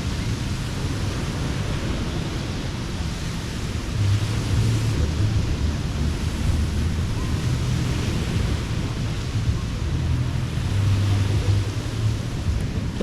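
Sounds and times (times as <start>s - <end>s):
ocean surf washing on beach: 0.0s - 13.0s
wind buffeting microphone: 0.0s - 13.0s.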